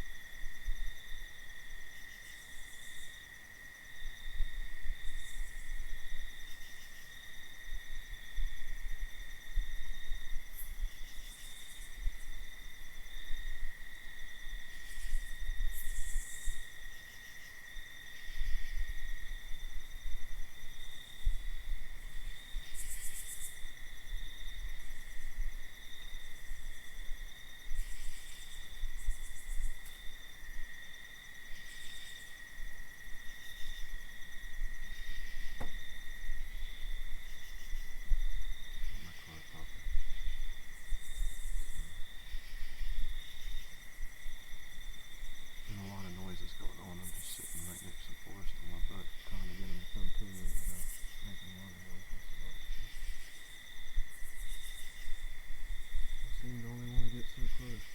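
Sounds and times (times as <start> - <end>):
cricket trill: 0.0 - 57.9
high buzzy insect calls: 0.0 - 57.9.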